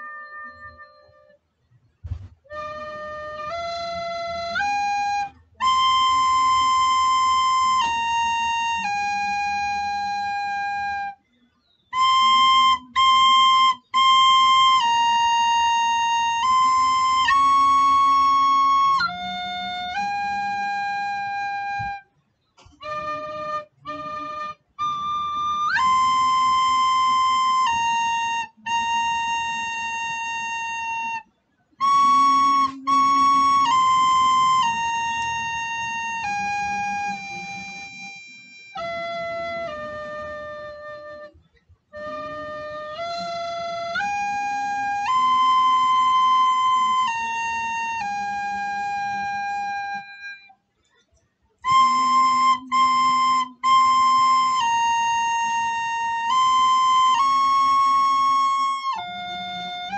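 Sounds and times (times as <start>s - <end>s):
recorder playing a slow hymn: 0.0s - 1.4s, 2.1s - 11.2s, 11.9s - 22.0s, 22.6s - 50.6s, 51.6s - 59.9s.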